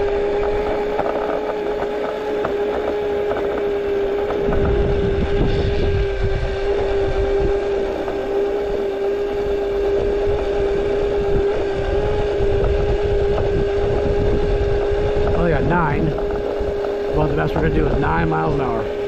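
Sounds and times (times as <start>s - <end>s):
electric scooter motor whine: 0.0s - 19.0s
road rumble: 0.0s - 19.0s
wind: 0.0s - 19.0s.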